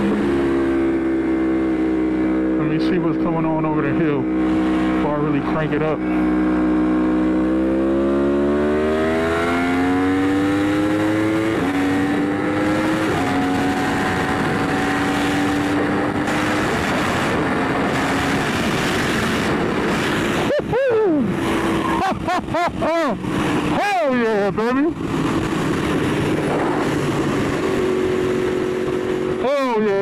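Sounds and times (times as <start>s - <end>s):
motorcycle engine accelerating: 0.0s - 30.0s
wind noise: 0.0s - 30.0s.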